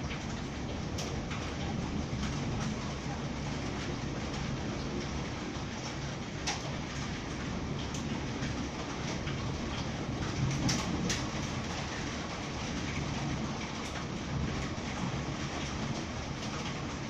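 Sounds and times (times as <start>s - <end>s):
heavy rain downpour: 0.0s - 17.0s
raindrop ticks: 0.0s - 17.0s.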